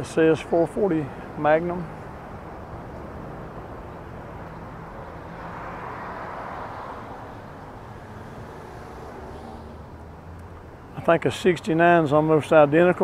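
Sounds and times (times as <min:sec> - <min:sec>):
traffic with engine hum: 0:00.0 - 0:13.0
vehicle passing: 0:00.7 - 0:11.3.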